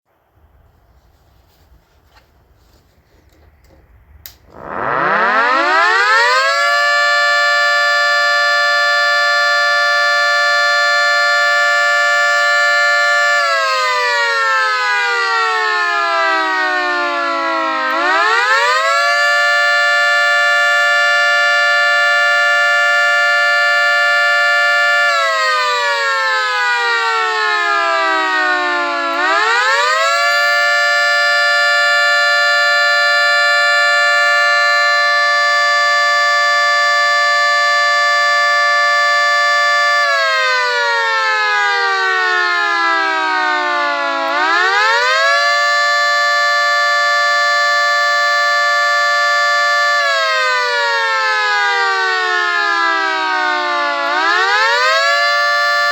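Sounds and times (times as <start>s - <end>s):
dual-tone siren wailing: 4.4s - 55.9s.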